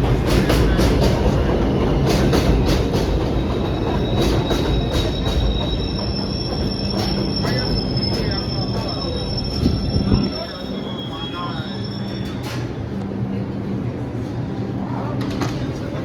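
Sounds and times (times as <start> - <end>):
train wheels squealing on rails: 0.0 - 13.0
train rumble: 0.0 - 16.0.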